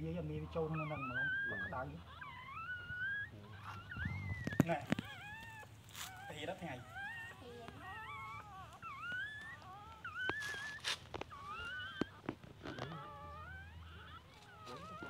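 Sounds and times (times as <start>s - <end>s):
puppies whimpering and crying: 0.0s - 15.0s.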